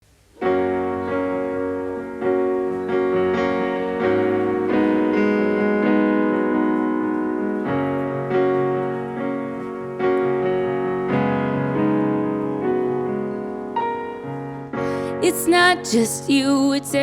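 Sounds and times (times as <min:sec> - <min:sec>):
piano chords: 0:00.3 - 0:17.0.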